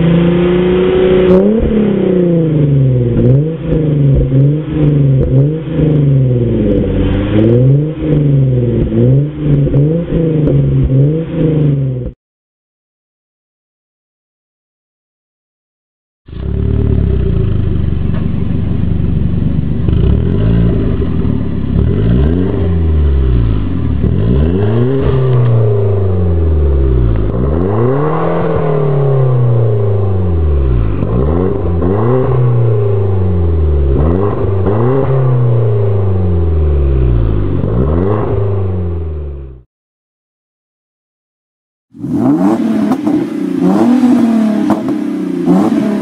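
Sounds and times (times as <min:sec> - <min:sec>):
car engine idling and revving: 0:00.0 - 0:12.2, 0:16.3 - 0:39.7, 0:41.9 - 0:46.0.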